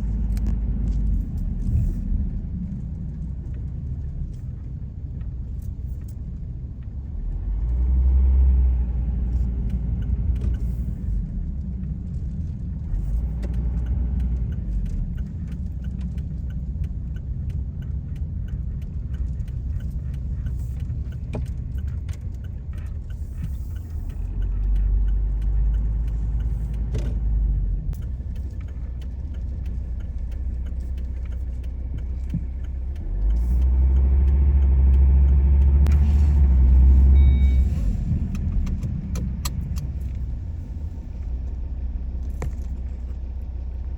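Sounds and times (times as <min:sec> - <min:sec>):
car tyre and engine rumble: 0:00.0 - 0:43.9.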